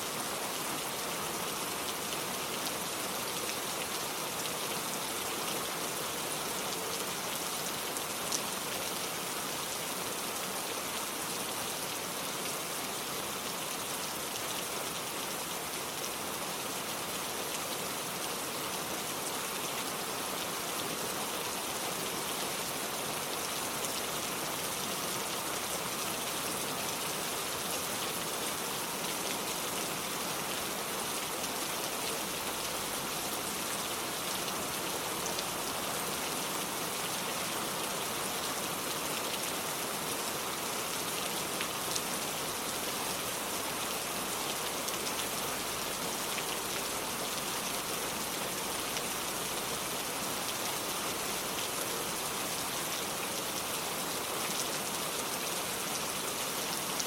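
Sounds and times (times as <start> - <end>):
rain on a porch and lake: 0.0 - 57.0.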